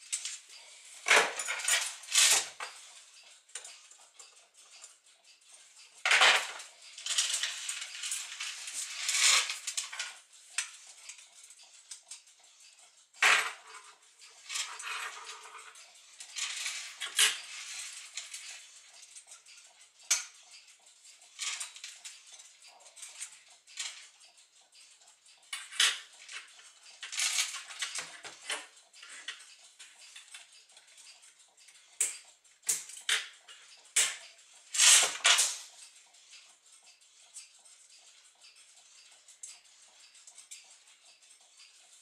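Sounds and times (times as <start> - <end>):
clock parts clinking: 0.0 - 42.0.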